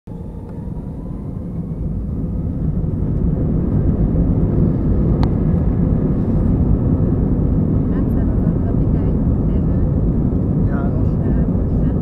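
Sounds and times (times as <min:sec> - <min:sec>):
jet engines rumbling: 0:00.1 - 0:12.0.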